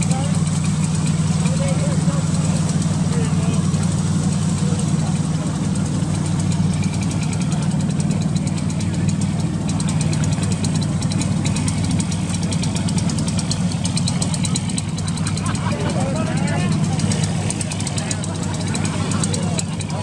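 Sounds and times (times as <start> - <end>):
engine idling: 0.0 - 20.0
fine rapid ticking: 0.0 - 20.0.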